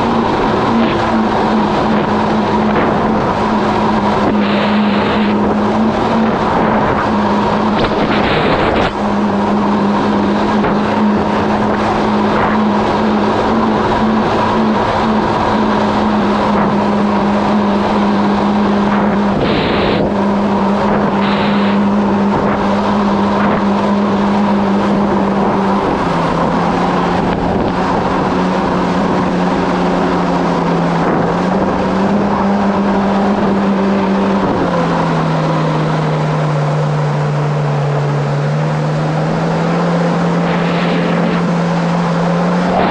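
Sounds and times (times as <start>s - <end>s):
jet ski engine running: 0.0s - 42.9s
water rushing past hull: 0.0s - 42.9s.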